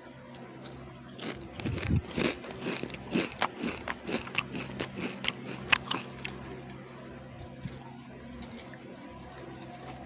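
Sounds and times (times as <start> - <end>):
crunching and chewing crisps: 0.3 - 10.0.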